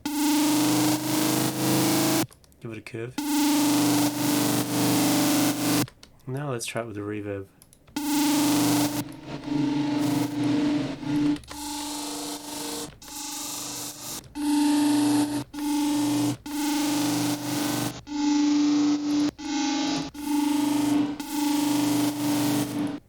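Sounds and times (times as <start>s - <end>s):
distorted synth bass notes: 0.0s - 2.2s, 3.2s - 5.9s, 8.0s - 23.0s.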